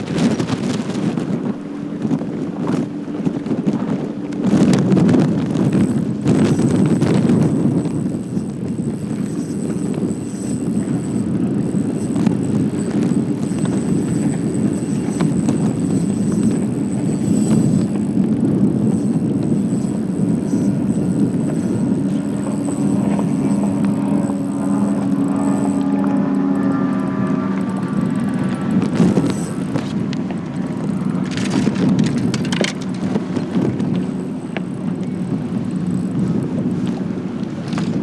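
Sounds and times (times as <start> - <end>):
boat motor drone: 0.0 - 38.0
wind on microphone: 0.0 - 38.0.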